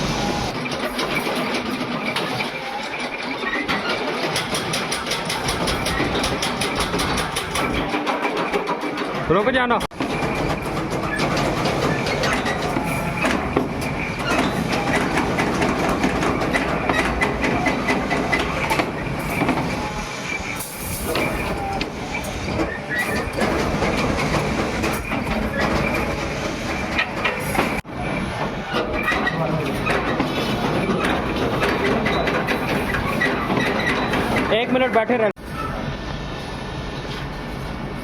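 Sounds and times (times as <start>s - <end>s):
workshop machinery clattering: 0.0s - 35.9s.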